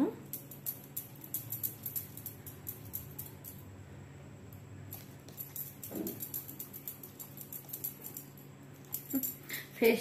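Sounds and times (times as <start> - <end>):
low steady hum: 0.0 - 10.0
bangles clinking: 0.1 - 3.9, 4.5 - 10.0.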